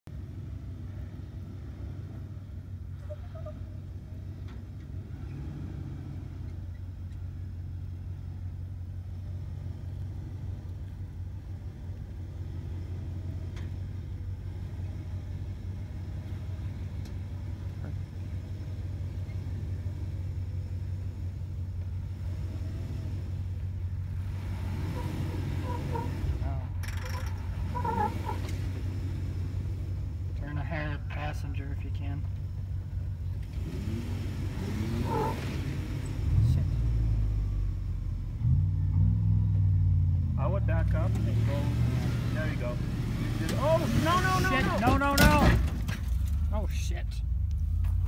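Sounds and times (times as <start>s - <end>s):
off-road vehicle engine rumble: 0.0s - 48.0s.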